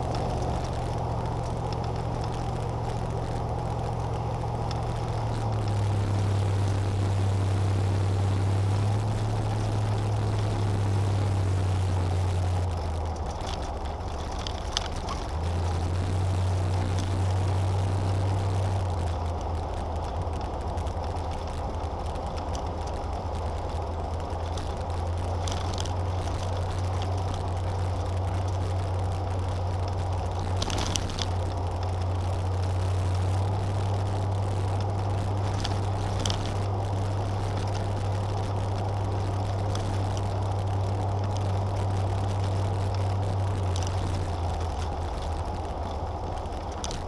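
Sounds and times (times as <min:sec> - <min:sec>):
car engine and tyre drone: 0:00.0 - 0:47.0.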